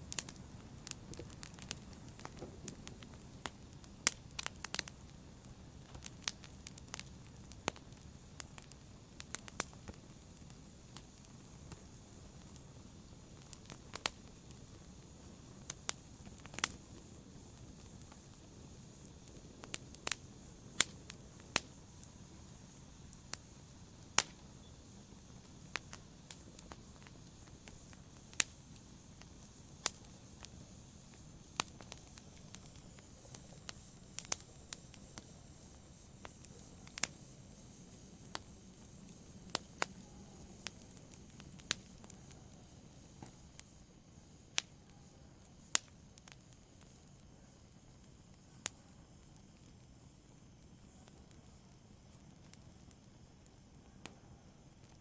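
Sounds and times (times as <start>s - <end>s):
burning logs popping: 0.0s - 55.0s
flames rushing softly: 0.0s - 55.0s.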